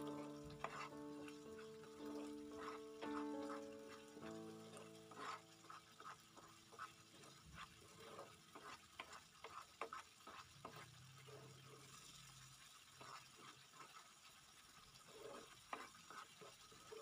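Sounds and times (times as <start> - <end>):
metal spatula scraping a wok: 0.0 - 14.2, 14.9 - 17.0
paste sizzling: 0.0 - 17.0.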